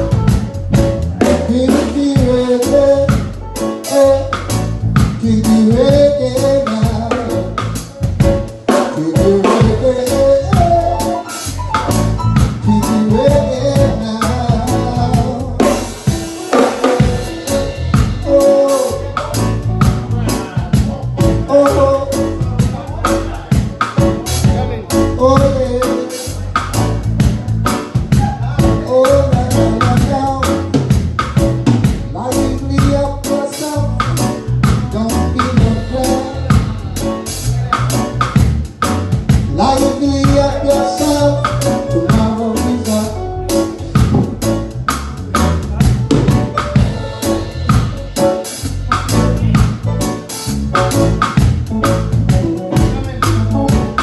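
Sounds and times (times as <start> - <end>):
drum kit: 0.0 - 54.0
reggae band playing: 0.0 - 54.0.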